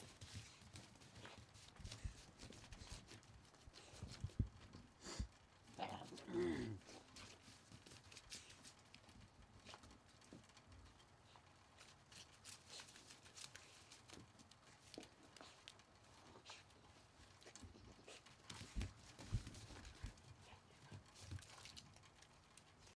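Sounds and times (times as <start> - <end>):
puppy paws on wooden deck: 0.0 - 5.3, 7.0 - 22.7.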